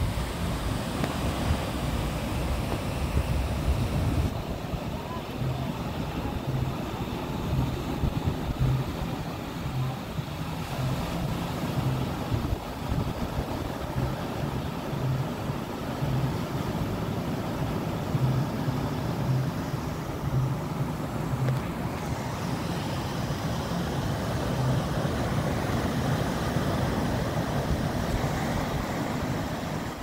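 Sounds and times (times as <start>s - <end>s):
wind noise on microphone: 0.0s - 22.1s, 23.0s - 30.0s.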